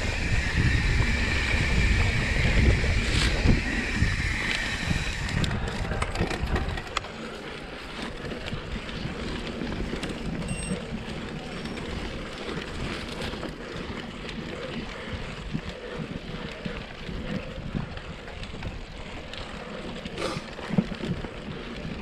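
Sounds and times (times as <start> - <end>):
bike clicks and rattles: 0.0 - 22.0
bike tyres rolling on dirt: 0.0 - 22.0
wind buffeting microphone: 0.0 - 22.0.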